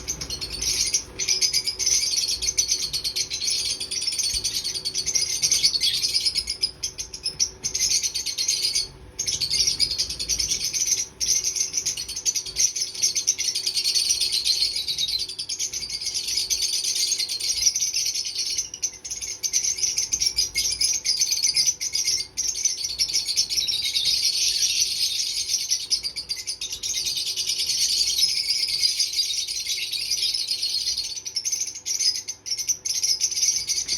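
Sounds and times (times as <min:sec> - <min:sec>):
lovebirds chattering: 0:00.0 - 0:33.9.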